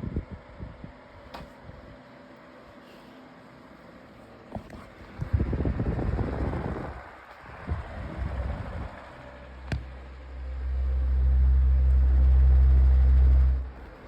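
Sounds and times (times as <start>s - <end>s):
low rumble of air on microphone: 0.0s - 2.8s, 4.2s - 14.0s
table fan running: 0.0s - 14.0s.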